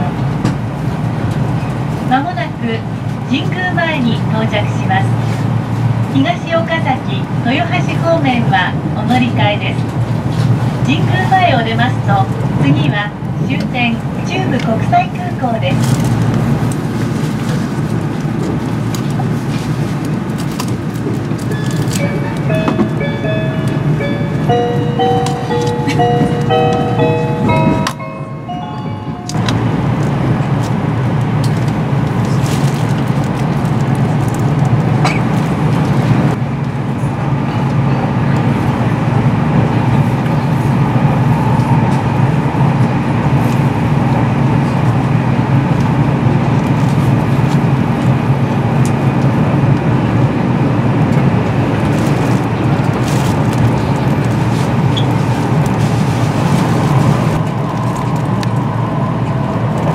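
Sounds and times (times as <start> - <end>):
train running noise inside: 0.0 - 59.9.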